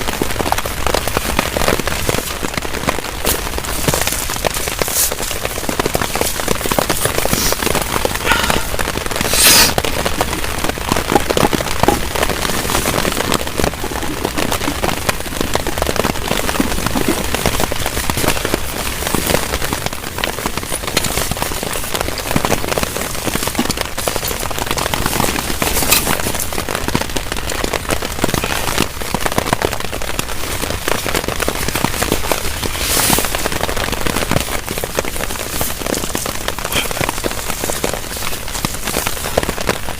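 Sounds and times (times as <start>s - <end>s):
heavy rain on a tarp: 0.0s - 39.9s.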